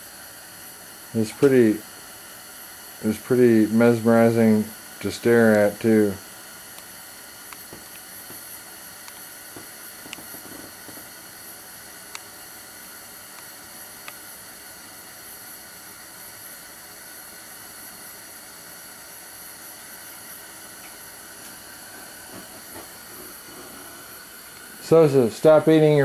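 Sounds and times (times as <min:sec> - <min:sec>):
gas heater hissing: 0:00.0 - 0:26.0.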